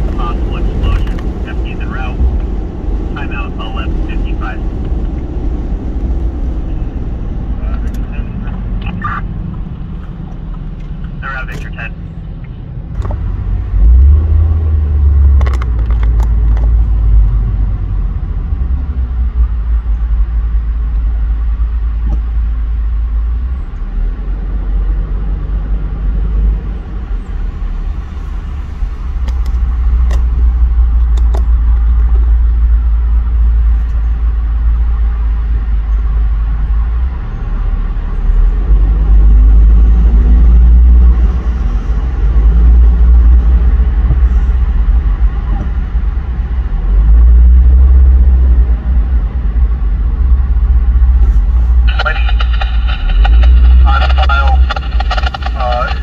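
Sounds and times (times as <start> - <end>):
car rumble inside cabin: 0.0 - 56.0.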